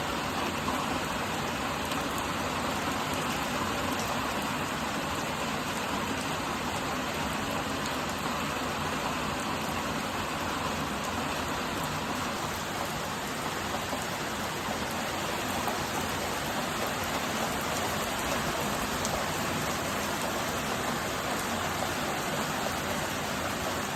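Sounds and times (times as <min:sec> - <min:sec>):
heavy rain pattering: 0:00.0 - 0:23.9.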